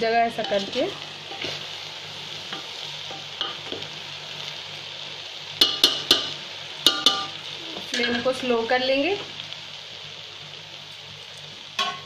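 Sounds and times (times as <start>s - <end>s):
frying hiss: 0.0s - 12.0s.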